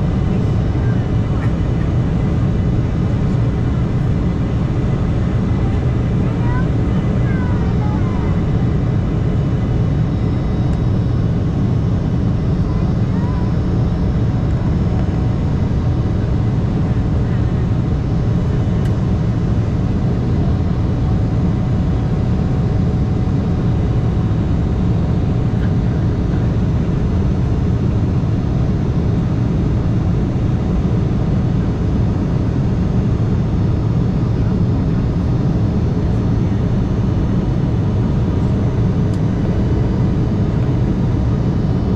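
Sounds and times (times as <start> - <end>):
jet engine hum: 0.0 - 41.9.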